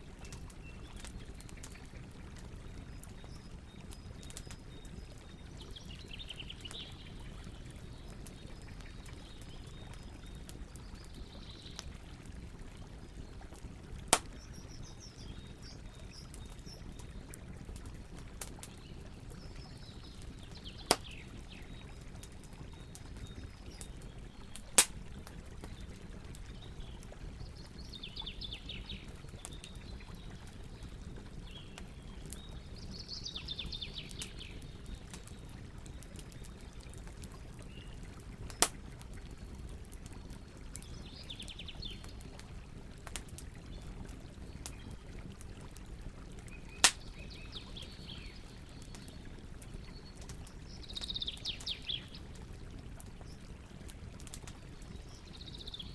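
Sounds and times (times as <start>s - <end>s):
campfire crackling and popping: 0.0s - 55.9s.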